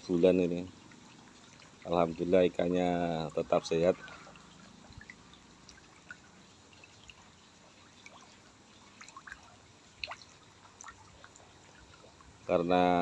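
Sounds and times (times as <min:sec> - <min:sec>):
water bubbling and dripping: 0:00.1 - 0:13.0
small water plops: 0:00.7 - 0:02.2, 0:03.4 - 0:12.5.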